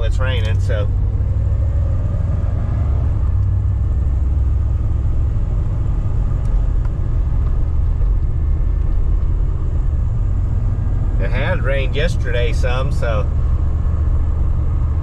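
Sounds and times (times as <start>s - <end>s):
road noise: 0.0s - 15.0s
van engine rumble: 0.0s - 15.0s.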